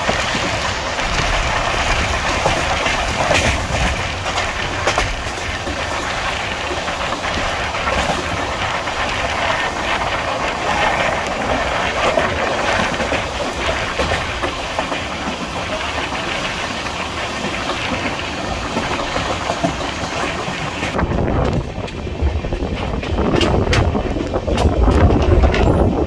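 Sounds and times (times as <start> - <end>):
train wheels rushing on rails: 0.0 - 26.0.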